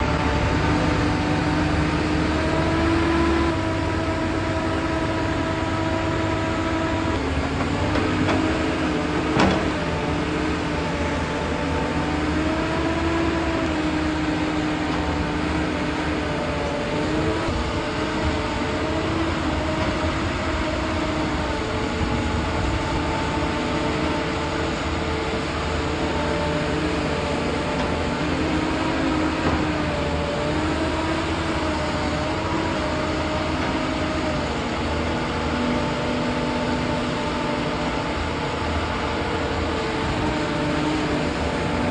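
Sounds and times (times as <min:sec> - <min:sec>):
motor running with a whine: 0:00.0 - 0:41.9.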